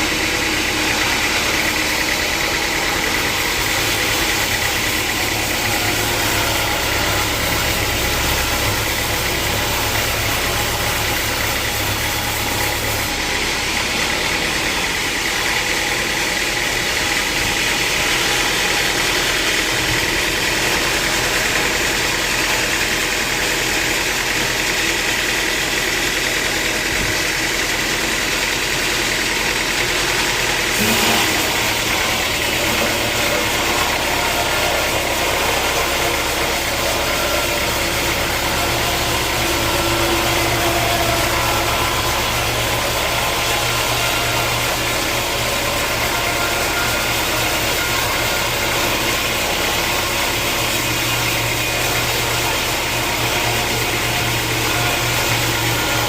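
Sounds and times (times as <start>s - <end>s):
deeper machinery hum: 0.0s - 56.0s
sawmill machinery humming: 0.0s - 56.0s.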